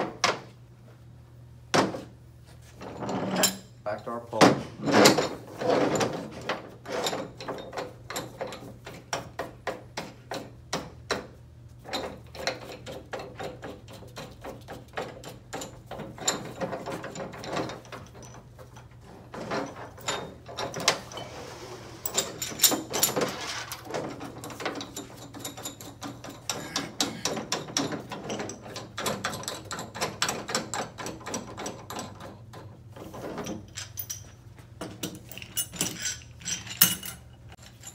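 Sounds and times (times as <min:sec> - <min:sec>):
metal clinks and knocks: 0:04.8 - 0:21.4, 0:22.0 - 0:37.9.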